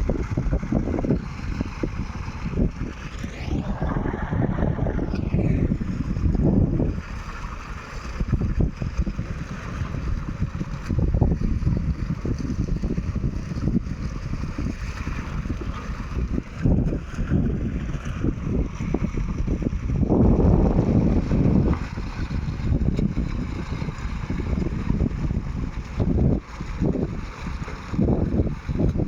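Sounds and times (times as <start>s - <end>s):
engine rumble: 0.0s - 29.0s
wind buffeting microphone: 0.0s - 29.0s.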